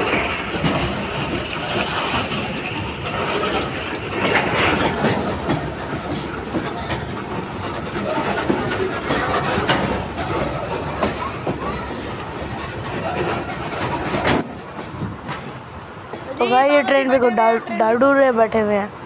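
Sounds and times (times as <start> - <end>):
wheels clanking over rail joints: 0.0 - 17.2
train wheels rumbling on rails: 0.0 - 19.0.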